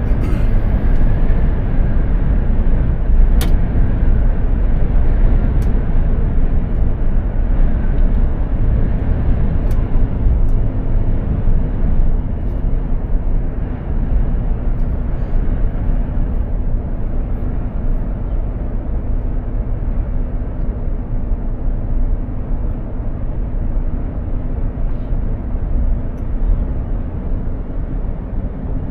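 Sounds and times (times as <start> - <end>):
road noise: 0.0 - 28.9
truck engine rumble: 0.0 - 28.9.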